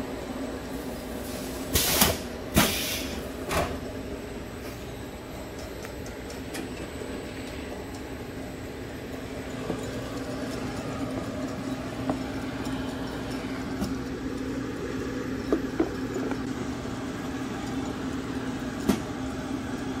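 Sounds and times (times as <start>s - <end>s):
printer mechanical hum: 0.0s - 20.0s.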